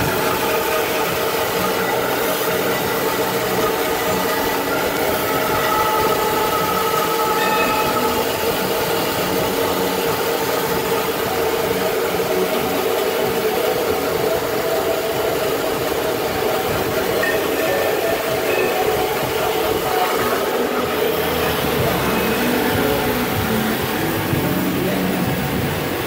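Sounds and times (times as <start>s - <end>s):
cutting machine droning and whining: 0.0s - 26.0s.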